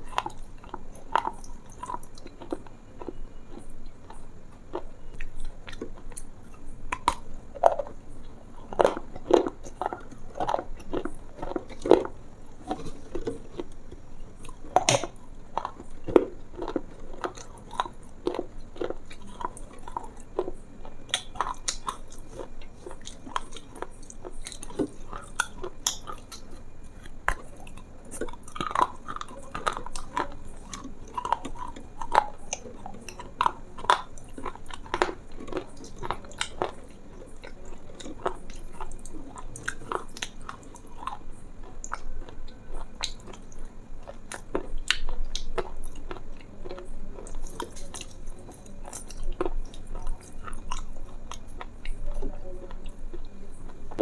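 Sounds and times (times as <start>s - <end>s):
chewing and crunching: 0.0s - 54.0s.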